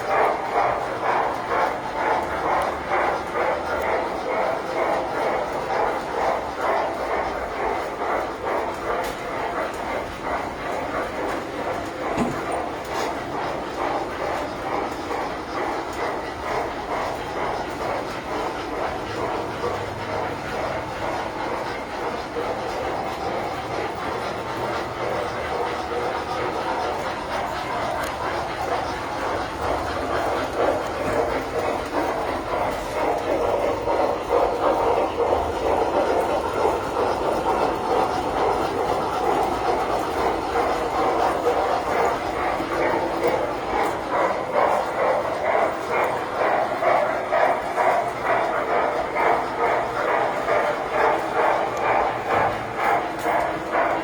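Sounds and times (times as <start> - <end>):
model trains on metal track: 0.0 - 54.0.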